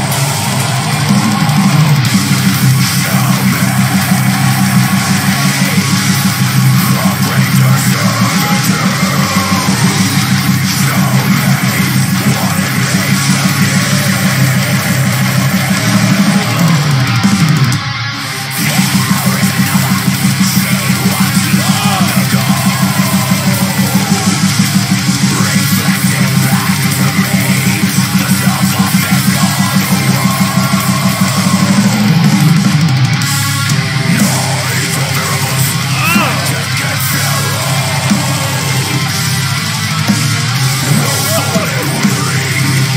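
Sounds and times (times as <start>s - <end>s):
heavy metal song: 0.0s - 42.9s.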